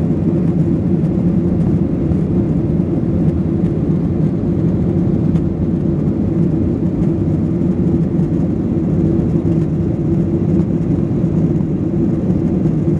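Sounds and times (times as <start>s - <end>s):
jet engines droning: 0.0s - 12.9s.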